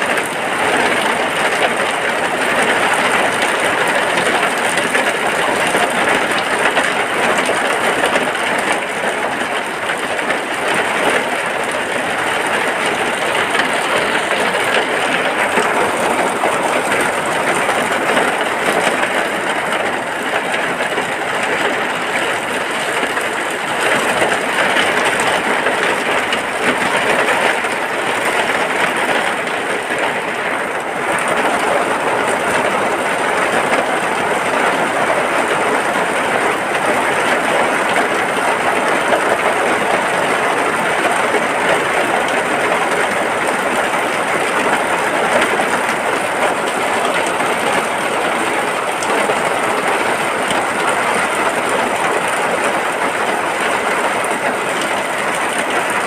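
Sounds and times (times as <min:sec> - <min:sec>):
heavy rain on a hut: 0:00.0 - 0:56.0.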